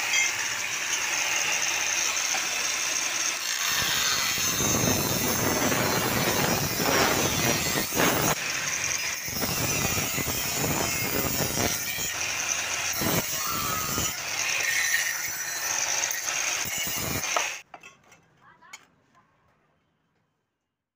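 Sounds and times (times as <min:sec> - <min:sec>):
angle grinder cutting steel tube: 0:00.0 - 0:17.6.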